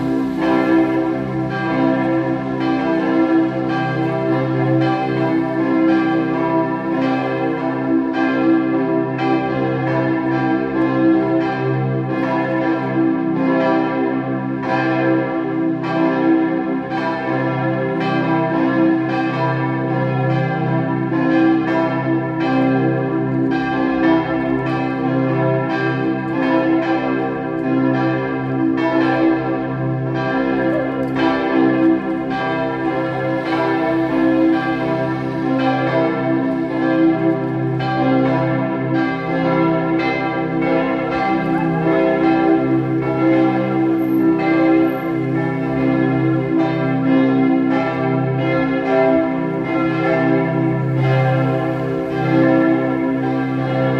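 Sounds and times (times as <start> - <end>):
church bells pealing: 0.0 - 53.9.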